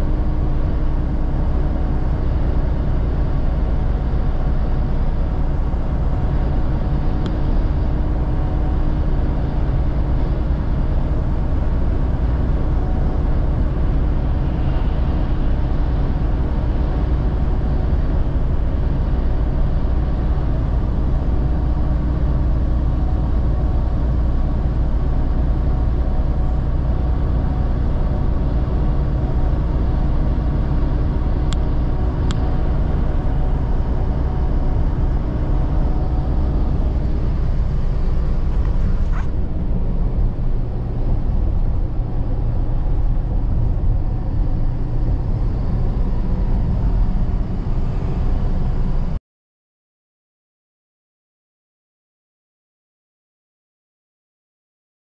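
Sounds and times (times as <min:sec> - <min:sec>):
truck engine and road rumble: 0:00.0 - 0:49.2.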